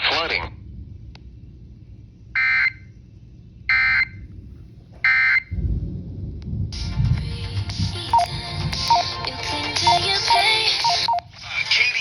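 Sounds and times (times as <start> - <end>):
low rumble: 0.0 - 10.6.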